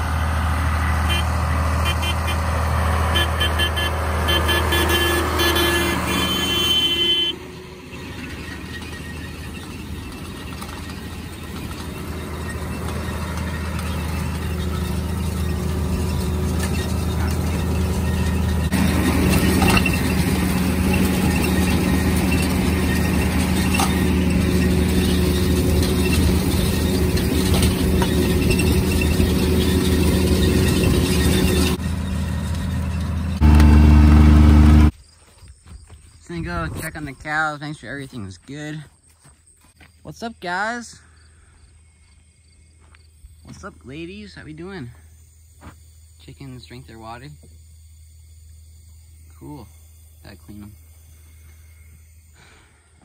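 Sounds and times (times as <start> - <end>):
tractor diesel engine running: 0.0 - 35.1, 42.7 - 53.0.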